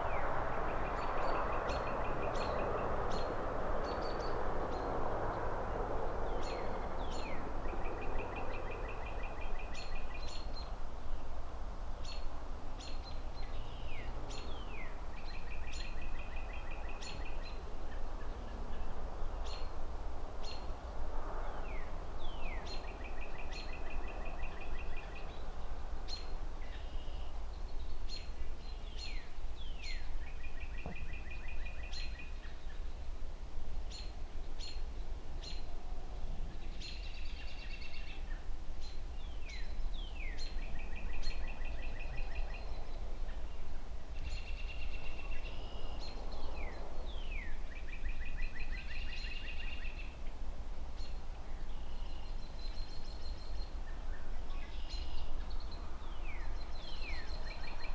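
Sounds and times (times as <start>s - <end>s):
songbirds singing: 0.0s - 11.4s, 12.0s - 33.1s, 33.8s - 57.9s
distant city traffic rumble: 0.0s - 57.9s.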